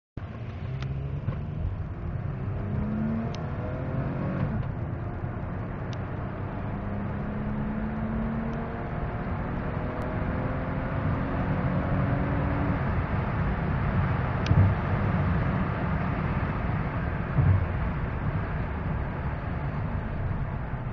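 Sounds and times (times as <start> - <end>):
car engine accelerating hard: 0.2 - 20.9.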